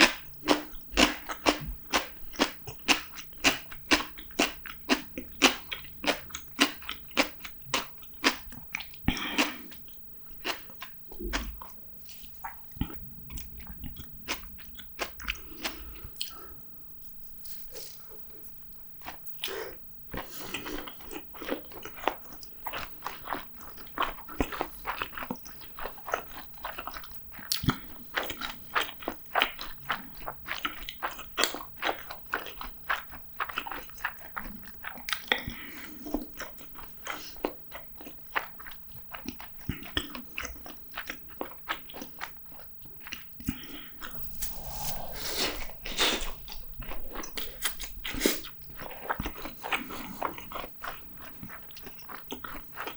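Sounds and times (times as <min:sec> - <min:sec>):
mouth clicks and smacks: 0:00.0 - 0:16.6, 0:19.0 - 0:52.9
person chewing: 0:00.0 - 0:52.9.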